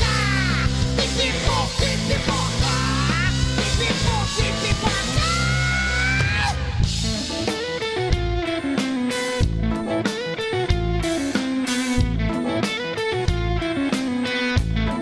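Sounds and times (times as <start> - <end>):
electric guitar: 0.0 - 15.0
live rock band music: 0.0 - 15.0.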